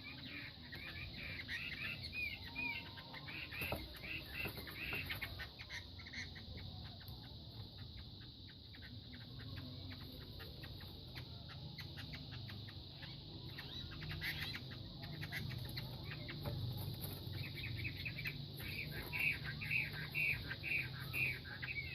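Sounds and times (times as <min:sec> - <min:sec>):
gamecocks clucking: 0:00.0 - 0:21.9
steady high-pitched hum: 0:00.0 - 0:21.9.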